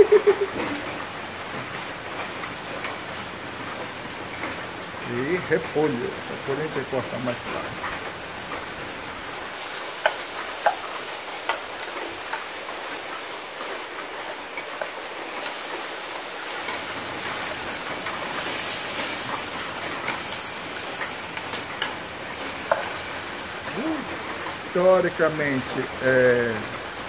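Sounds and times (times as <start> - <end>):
sausage sizzling: 0.0 - 27.0.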